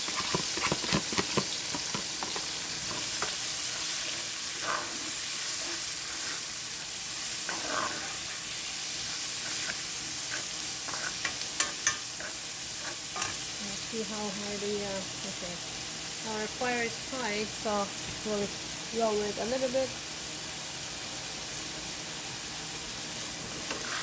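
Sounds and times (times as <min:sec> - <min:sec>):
garlic sizzling in oil: 0:00.0 - 0:24.0.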